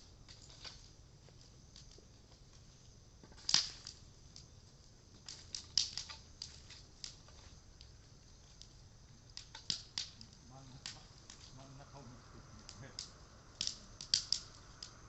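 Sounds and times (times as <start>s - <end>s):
burning wood crackling and popping: 0.0s - 15.0s.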